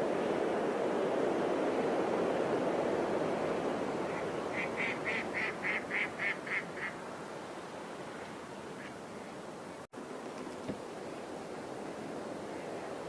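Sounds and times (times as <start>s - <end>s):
surf rushing: 0.0s - 13.0s.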